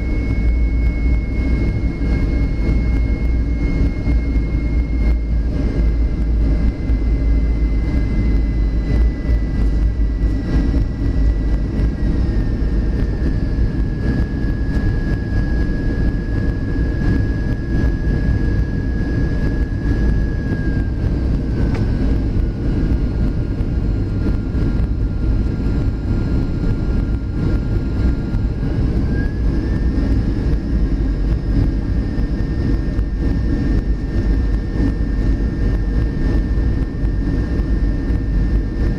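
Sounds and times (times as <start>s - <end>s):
jet engine roar in cabin: 0.0s - 38.9s
jet engine whine: 0.0s - 38.9s.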